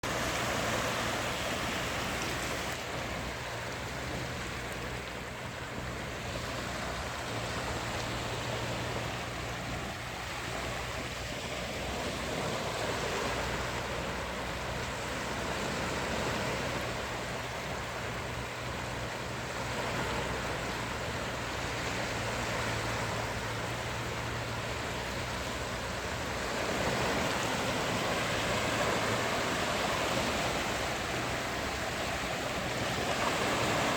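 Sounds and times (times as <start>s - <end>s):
sea waves washing onto beach: 0.0s - 33.9s.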